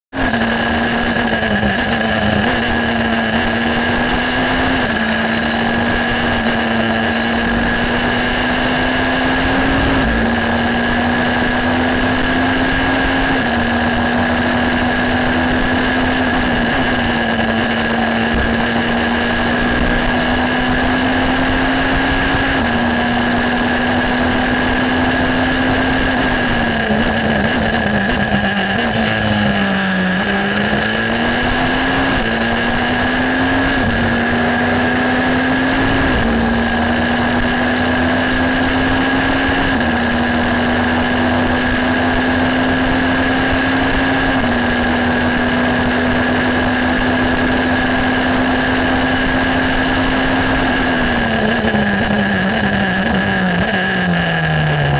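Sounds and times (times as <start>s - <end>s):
racing car engine at full throttle: 0.0s - 54.9s
steady high whine: 0.0s - 54.9s.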